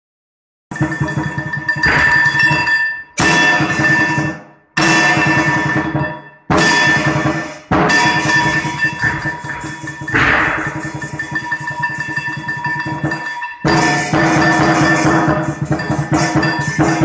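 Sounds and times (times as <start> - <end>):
ringing percussion hits: 0.7 - 17.0.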